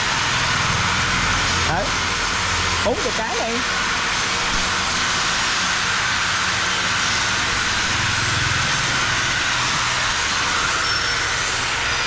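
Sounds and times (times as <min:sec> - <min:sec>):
laser cutter hissing: 0:00.0 - 0:12.0.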